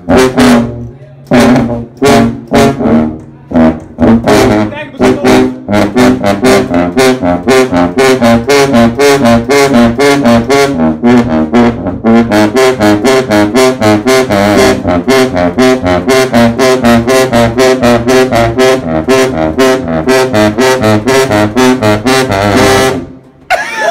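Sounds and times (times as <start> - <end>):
sousaphones playing a fast riff: 0.0 - 23.9.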